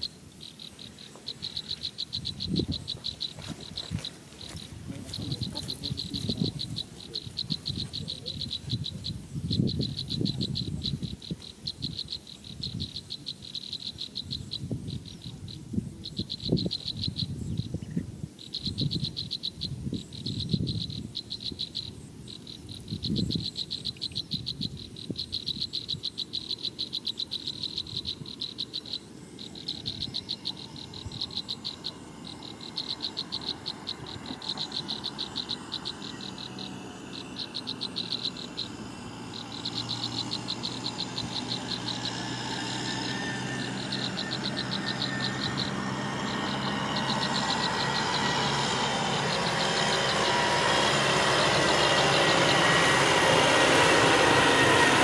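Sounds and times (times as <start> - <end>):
vehicle engine: 0.0 - 17.7, 26.3 - 55.0
high-pitched trilling calls: 0.0 - 55.0.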